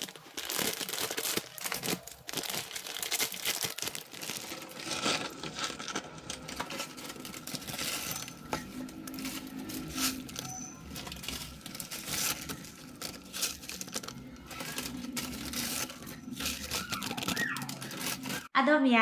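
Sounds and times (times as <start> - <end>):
plastic packaging crinkling and tearing: 0.0 - 18.5.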